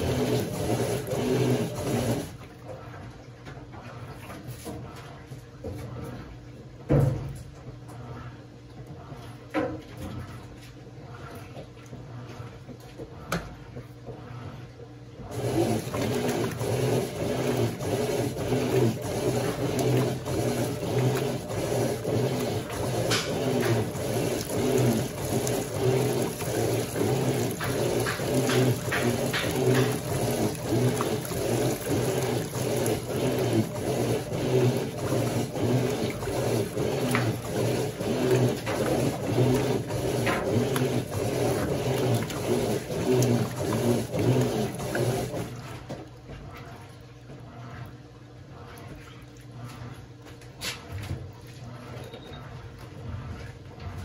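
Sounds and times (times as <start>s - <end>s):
washing machine motor hum: 0.0s - 54.0s
water sloshing in washing machine: 0.0s - 54.0s.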